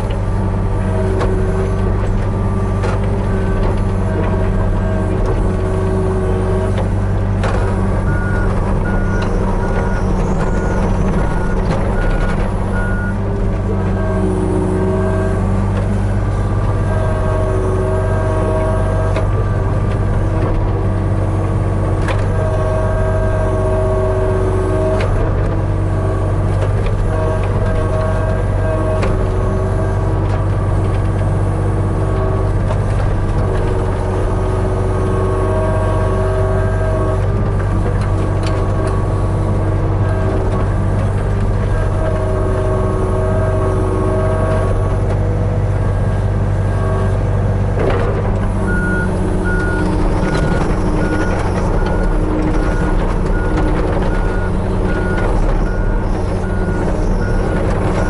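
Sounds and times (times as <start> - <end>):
excavator engine running: 0.0 - 58.0
hydraulic whine: 0.0 - 58.0.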